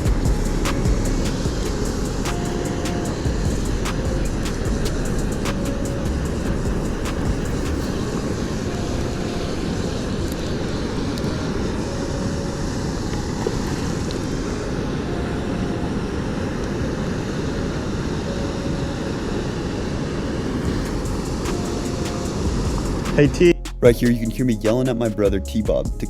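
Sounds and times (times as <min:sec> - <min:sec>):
stream water flowing: 0:00.0 - 0:23.3
wind rumbling on microphone: 0:00.0 - 0:24.0.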